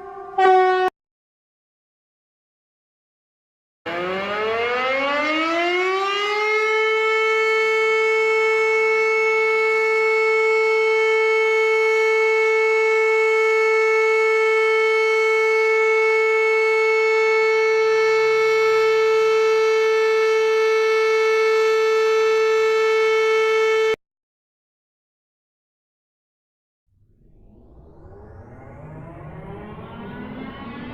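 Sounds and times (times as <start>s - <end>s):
siren steady tone: 0.0s - 0.9s, 3.9s - 24.0s, 26.9s - 30.9s.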